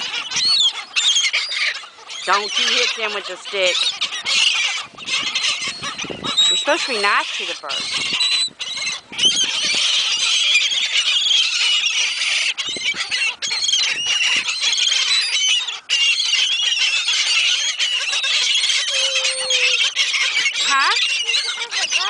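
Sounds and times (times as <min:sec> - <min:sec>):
gulls squealing and squawking: 0:00.0 - 0:22.0.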